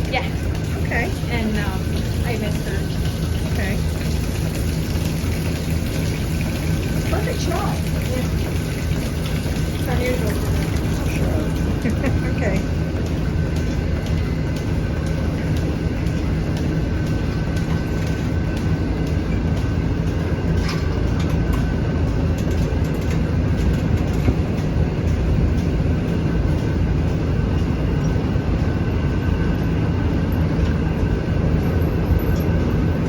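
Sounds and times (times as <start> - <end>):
constant mechanical whine: 0.0 - 33.0
machinery hum: 0.0 - 33.0.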